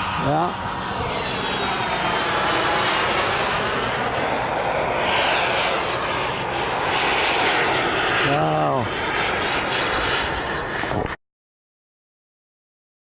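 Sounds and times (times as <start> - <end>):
model aircraft engine flying past: 0.0 - 11.2.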